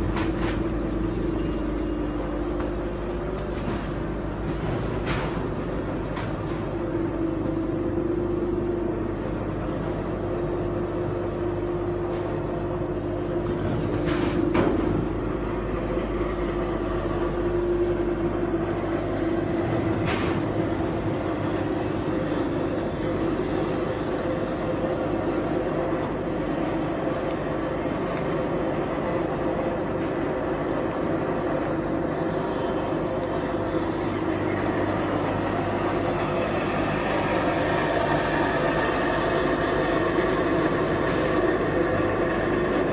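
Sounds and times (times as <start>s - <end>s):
machine humming: 0.0s - 42.9s.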